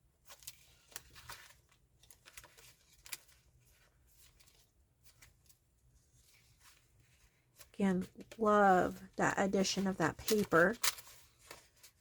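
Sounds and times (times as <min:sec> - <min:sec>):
paper pages rustling and turning: 0:00.0 - 0:12.0.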